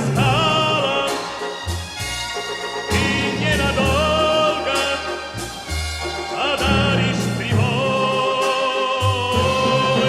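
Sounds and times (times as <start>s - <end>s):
instrumental pop music: 0.0s - 10.0s.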